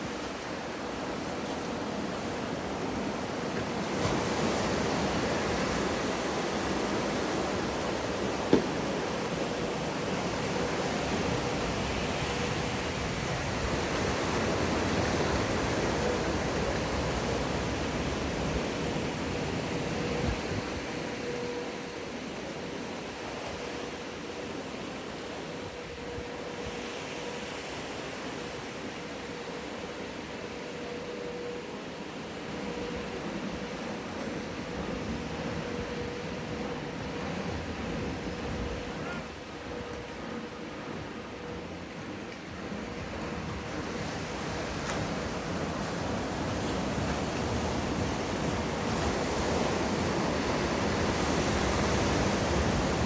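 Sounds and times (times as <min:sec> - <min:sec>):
rushing water of wave: 0:00.0 - 0:53.0.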